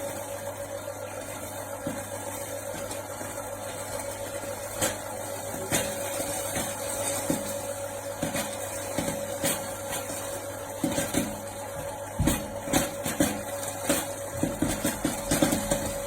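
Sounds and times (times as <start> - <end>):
popcorn machine motor hum: 0.0 - 16.0
popcorn kernels popping: 1.8 - 16.0.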